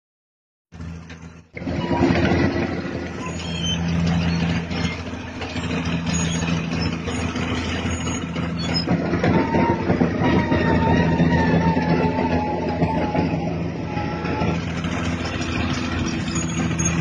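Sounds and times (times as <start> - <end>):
bulldozer diesel engine running: 0.7 - 17.0.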